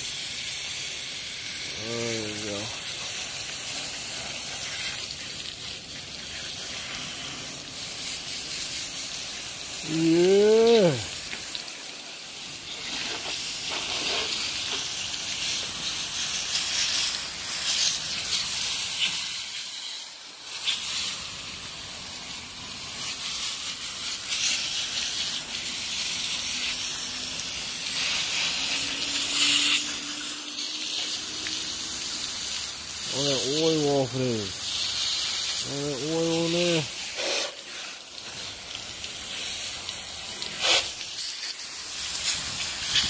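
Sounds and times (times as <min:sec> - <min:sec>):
hose spray hissing and splashing: 0:00.0 - 0:43.0.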